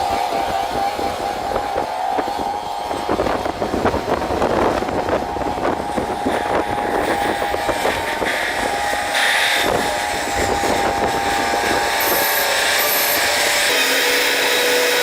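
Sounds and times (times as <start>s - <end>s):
heavy machinery whine: 0.0s - 15.0s.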